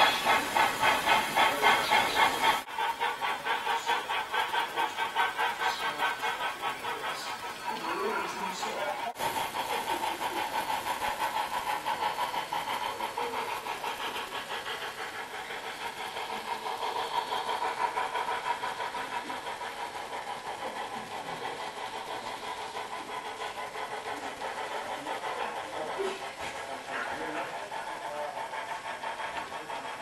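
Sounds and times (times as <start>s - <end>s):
model train humming: 0.0s - 30.0s.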